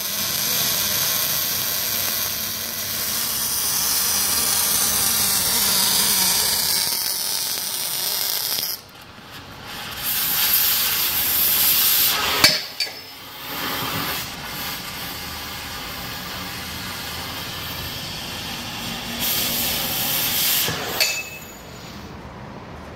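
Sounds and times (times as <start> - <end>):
cutting torch hissing: 0.0 - 22.1.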